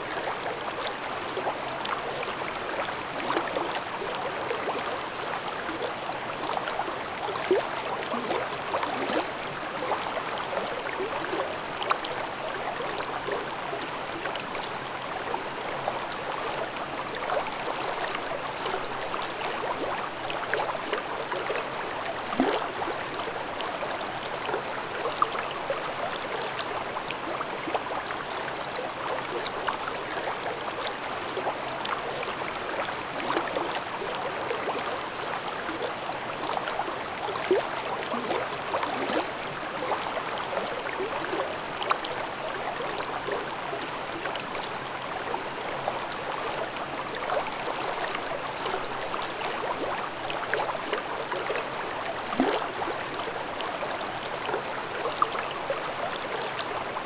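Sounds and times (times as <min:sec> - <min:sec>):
brook babbling over rocks: 0:00.0 - 0:57.0.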